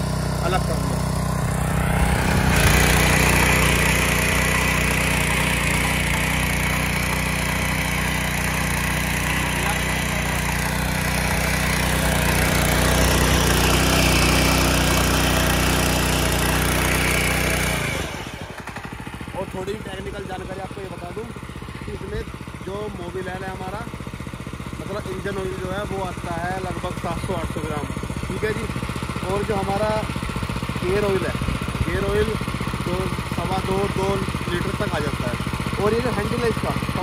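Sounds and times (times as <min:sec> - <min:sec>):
small engine running: 0:00.0 - 0:37.0
tines churning soil: 0:00.0 - 0:37.0.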